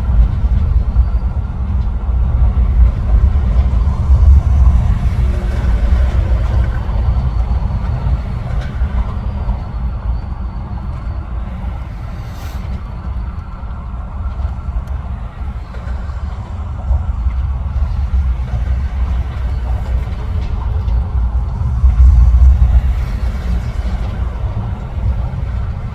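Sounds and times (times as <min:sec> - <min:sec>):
heavy traffic rumble on bridge: 0:00.0 - 0:25.9.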